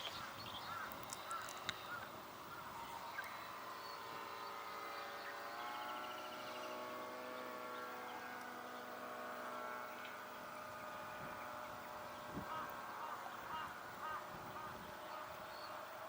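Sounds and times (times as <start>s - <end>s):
model plane motor drone: 0.0s - 16.0s.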